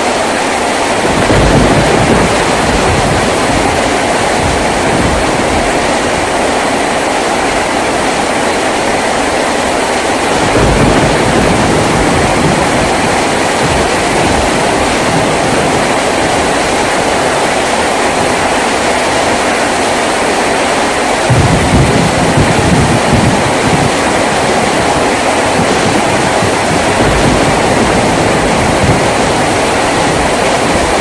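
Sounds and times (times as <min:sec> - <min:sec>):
heavy rain on a tin roof: 0:00.0 - 0:31.0.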